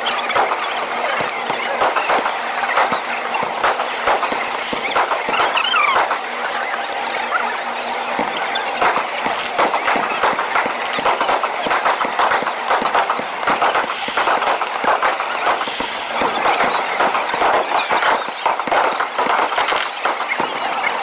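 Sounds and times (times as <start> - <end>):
fireworks crackling and popping: 0.0 - 21.0
fireworks hiss: 1.2 - 6.3, 8.2 - 20.6.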